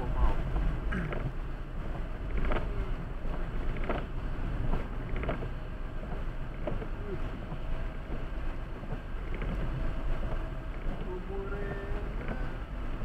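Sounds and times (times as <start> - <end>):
car driving on wet road: 0.0 - 13.0.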